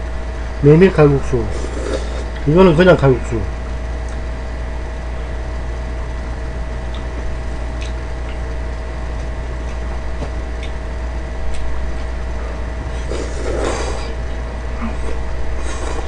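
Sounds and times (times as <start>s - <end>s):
electric fan hum: 0.0s - 16.0s.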